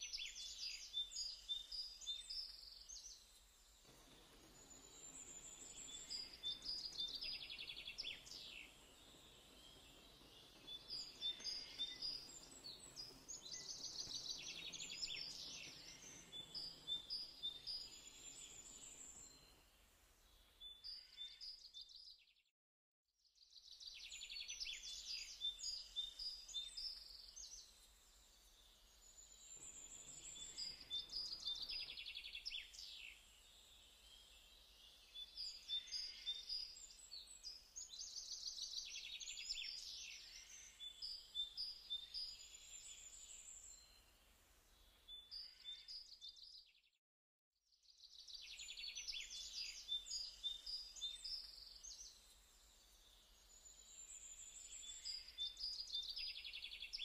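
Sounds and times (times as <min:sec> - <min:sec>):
faint bird chirps and trills: 0:00.0 - 0:19.6, 0:23.8 - 0:46.8, 0:48.0 - 0:57.0.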